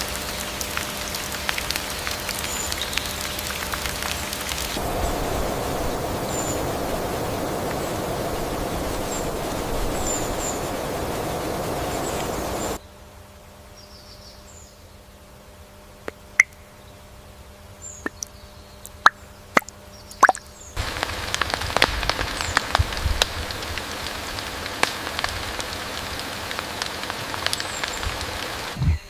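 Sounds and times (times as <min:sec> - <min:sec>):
sharp drips and ticks: 0:00.0 - 0:12.8, 0:18.0 - 0:28.8
rain-like hiss: 0:00.0 - 0:13.7, 0:18.9 - 0:29.0.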